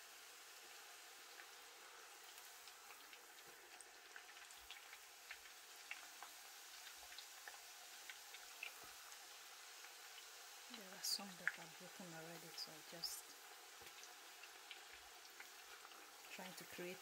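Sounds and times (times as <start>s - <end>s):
food deep-frying in oil: 0.0s - 17.0s
oil crackles and pops: 0.0s - 17.0s.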